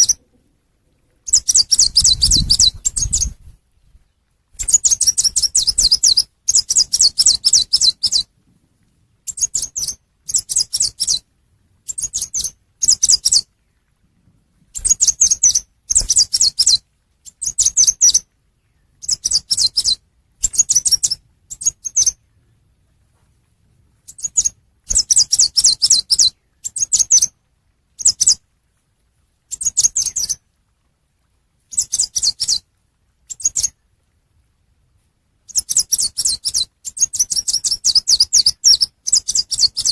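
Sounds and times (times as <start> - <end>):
songbird chirping twitters: 0.0 - 8.3, 9.2 - 14.0, 14.7 - 22.8, 24.0 - 27.4, 28.0 - 28.6, 29.5 - 30.5, 31.7 - 34.0, 35.4 - 39.9.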